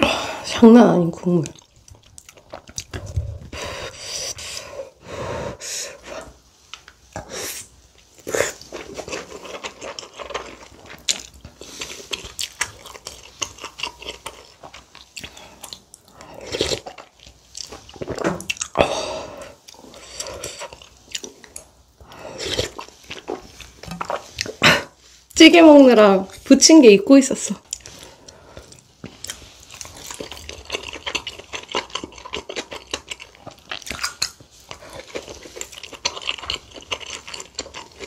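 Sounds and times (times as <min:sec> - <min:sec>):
person chewing food: 0:01.2 - 0:25.2, 0:27.6 - 0:38.0.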